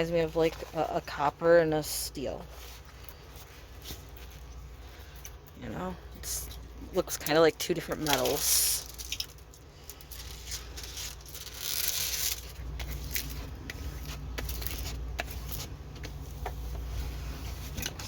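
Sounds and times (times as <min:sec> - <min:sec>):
plastic packaging rustling: 0:00.0 - 0:05.3, 0:06.6 - 0:18.0
steady low hum: 0:00.0 - 0:18.0.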